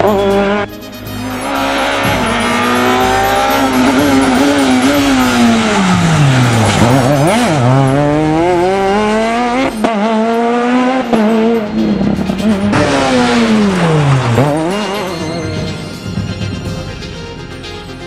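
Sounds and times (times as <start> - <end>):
rally car engines revving: 0.0 - 16.6.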